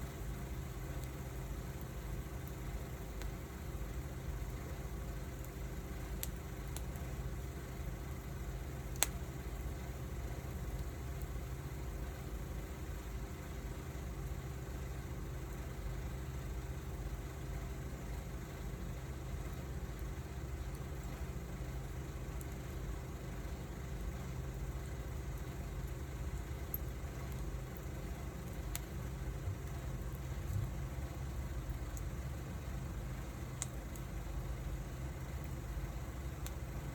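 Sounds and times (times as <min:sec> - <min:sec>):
fire crackles: 0:00.0 - 0:36.9
wood fire rumbling: 0:00.0 - 0:36.9.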